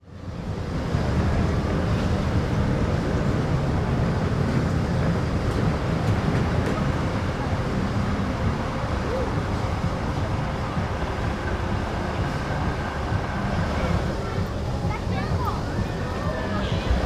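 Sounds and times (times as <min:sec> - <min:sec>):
distant amusement park ambience: 0:00.0 - 0:17.0.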